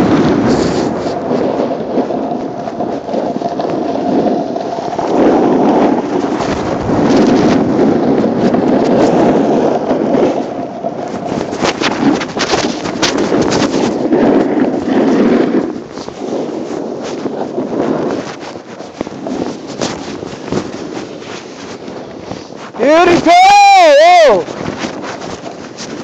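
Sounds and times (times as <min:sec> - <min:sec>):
fabric rubbing on microphone: 0:00.0 - 0:26.0
wind buffeting microphone: 0:00.0 - 0:26.0.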